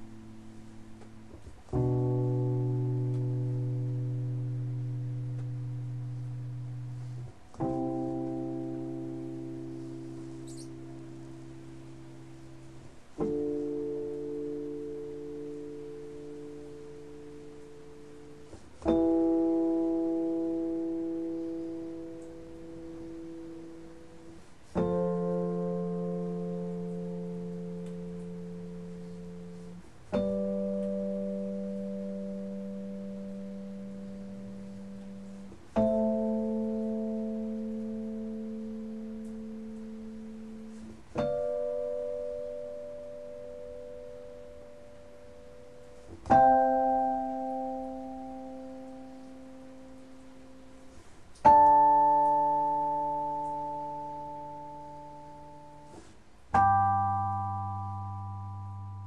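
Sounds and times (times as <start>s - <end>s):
slow piano chords: 0.0s - 59.0s.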